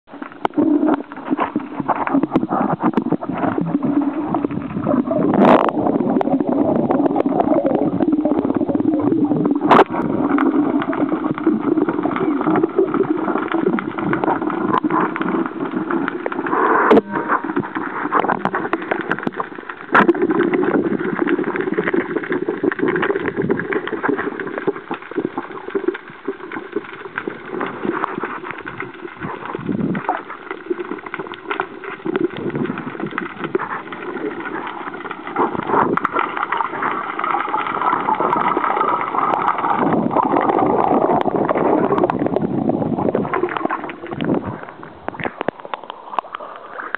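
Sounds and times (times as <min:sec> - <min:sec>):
muffled underwater drone: 0:00.1 - 0:46.9.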